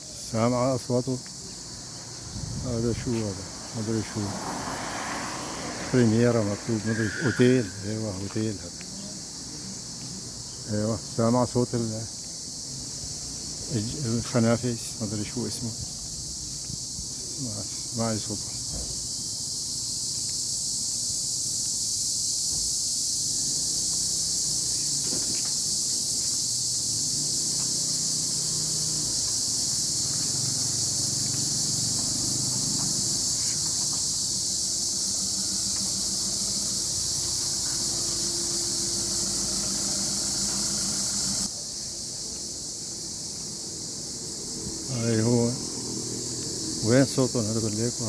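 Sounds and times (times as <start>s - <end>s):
insects buzzing chorus: 0.0s - 48.0s.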